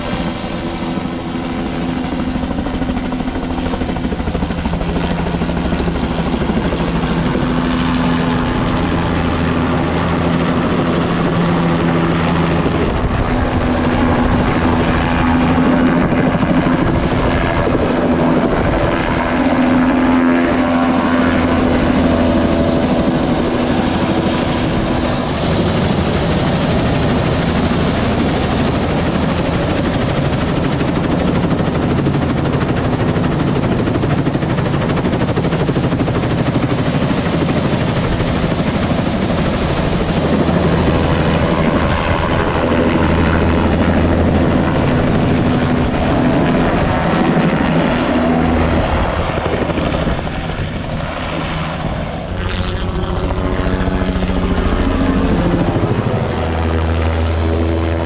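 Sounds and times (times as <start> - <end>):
helicopter engine and rotor: 0.0 - 58.0
high turbine whine: 0.0 - 58.0.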